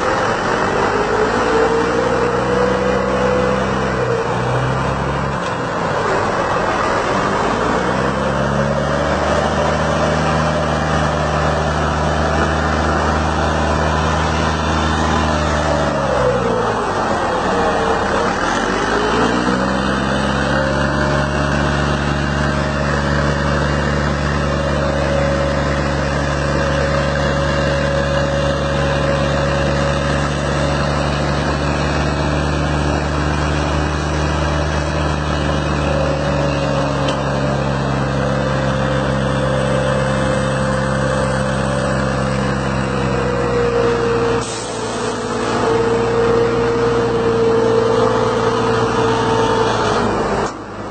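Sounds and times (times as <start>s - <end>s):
heavy truck engine running: 0.0s - 50.9s.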